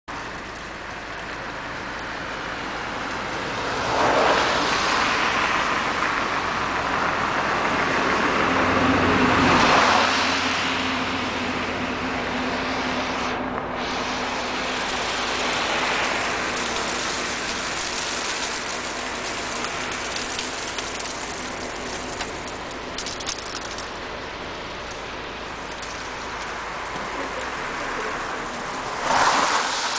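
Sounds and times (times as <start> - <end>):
freezing rain hissing: 0.1 - 8.5, 9.4 - 29.9
vehicle passing on wet road: 0.1 - 29.9.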